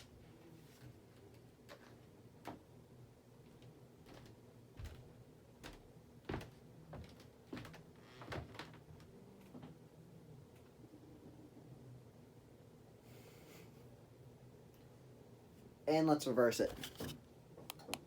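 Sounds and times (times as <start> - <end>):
ceiling fan humming: 0.0 - 18.0.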